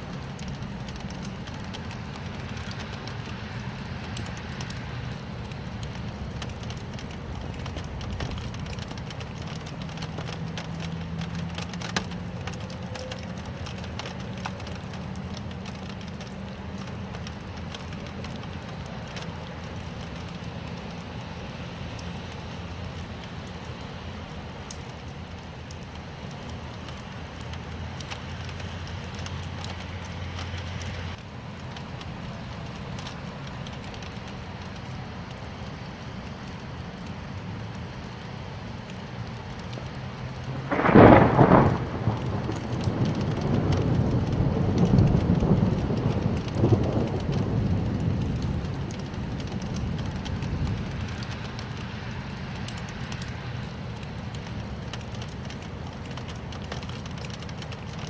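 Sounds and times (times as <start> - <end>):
rain hiss: 0.0 - 58.0
raindrops hitting a surface: 0.0 - 58.0.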